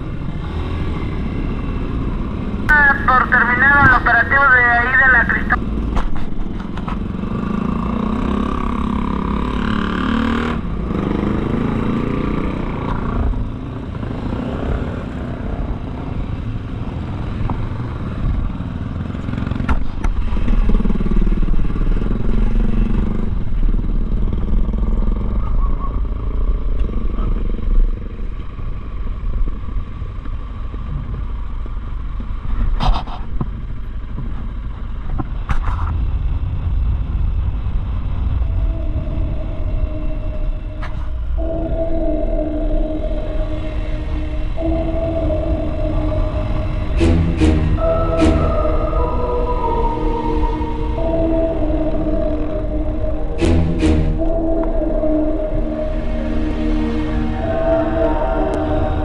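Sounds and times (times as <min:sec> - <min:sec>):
motorcycle engine revving: 0:00.0 - 0:02.7, 0:05.5 - 0:32.7, 0:33.5 - 0:59.0
steady low rumble: 0:01.2 - 0:09.6, 0:15.0 - 0:59.0.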